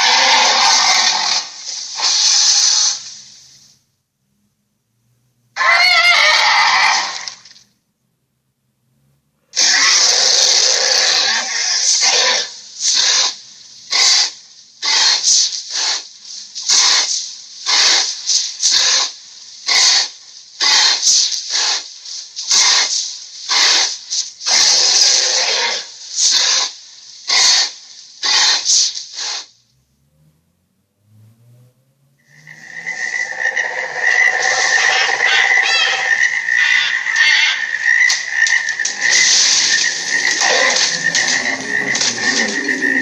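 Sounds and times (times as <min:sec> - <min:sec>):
breathy ape hisses and huffs: 0:00.0 - 0:03.8, 0:09.6 - 0:29.6, 0:32.3 - 0:43.0.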